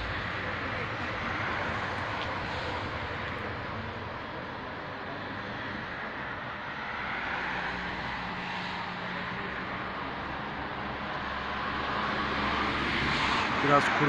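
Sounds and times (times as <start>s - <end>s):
passing vehicles: 0.0s - 14.0s.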